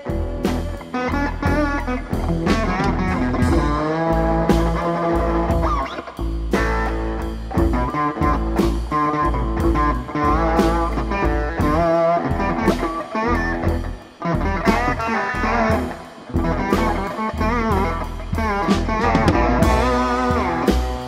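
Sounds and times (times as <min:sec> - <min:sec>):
blues guitar lead: 0:00.0 - 0:21.0
drums: 0:00.0 - 0:21.0
upright bass: 0:00.0 - 0:21.0.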